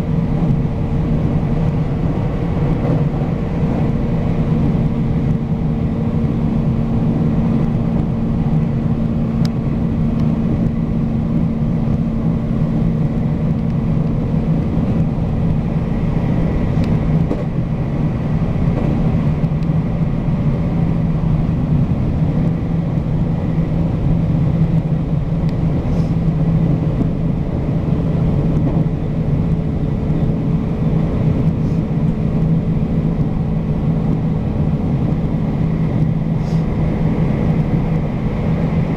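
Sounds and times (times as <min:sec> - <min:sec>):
constant low hum: 0:00.0 - 0:38.9
train wheels rumbling on rail: 0:00.0 - 0:38.9.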